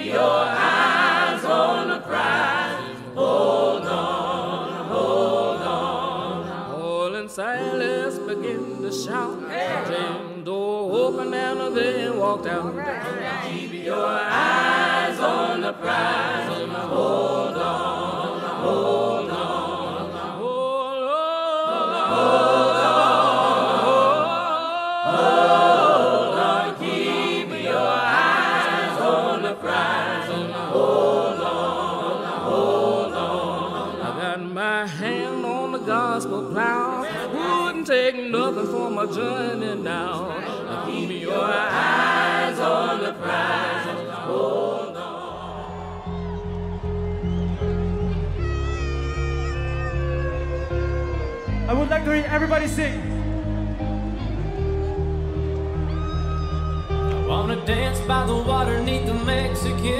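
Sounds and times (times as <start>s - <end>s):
choir singing gospel: 0.0s - 59.9s.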